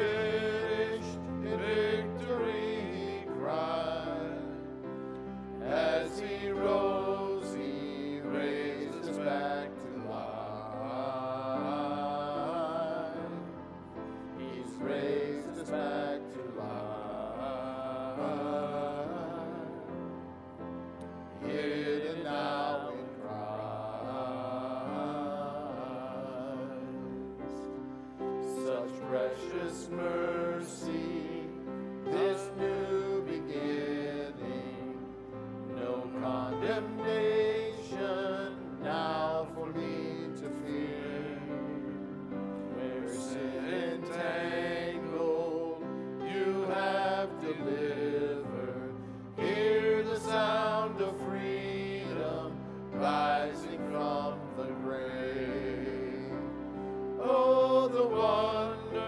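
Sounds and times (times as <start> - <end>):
voices singing worship song: 0.0 - 59.0.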